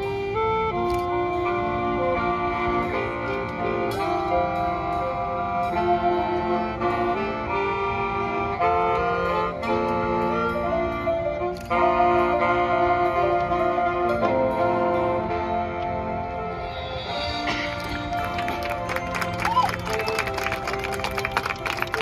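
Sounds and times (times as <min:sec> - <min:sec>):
marching band brass and winds: 0:00.0 - 0:22.0.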